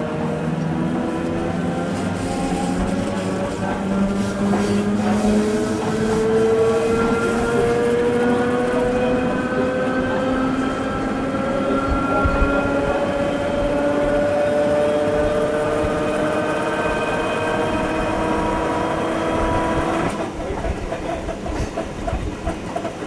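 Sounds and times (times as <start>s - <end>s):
train traction motors whining: 0.0s - 23.0s
train wheels rumbling: 0.0s - 23.0s.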